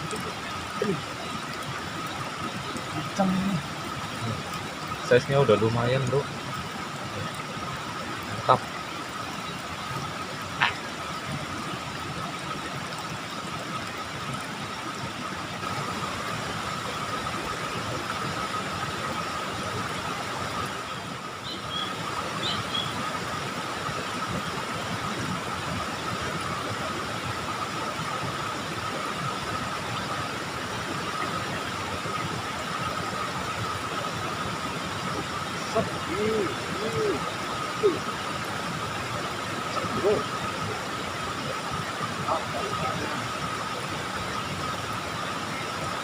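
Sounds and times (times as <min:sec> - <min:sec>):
water flowing in a ditch: 0:00.0 - 0:46.0.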